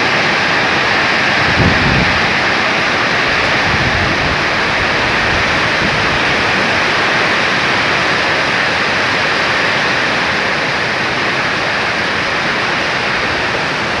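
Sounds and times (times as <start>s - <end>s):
heavy rain pouring: 0.0s - 14.0s
strong wind: 0.0s - 14.0s.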